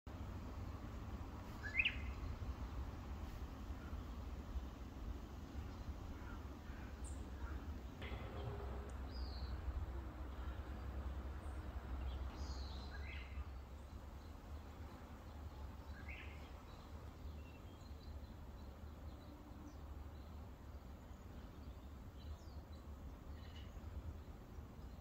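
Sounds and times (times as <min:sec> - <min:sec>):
low steady rumble: 0:00.1 - 0:25.0.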